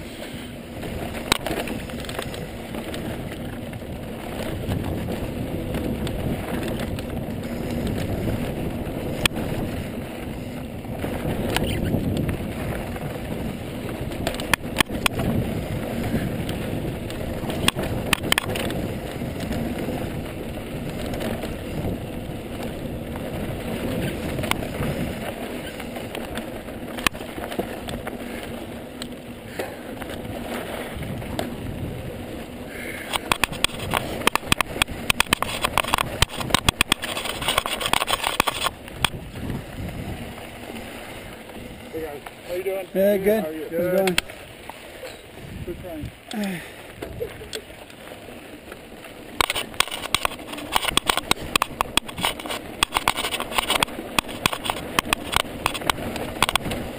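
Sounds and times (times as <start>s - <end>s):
wind on microphone: 0.0s - 28.7s, 29.4s - 43.5s, 45.2s - 47.7s, 49.2s - 56.9s
bike clicks and rattles: 0.0s - 56.9s
bike tyre rumble on dirt: 0.0s - 56.9s.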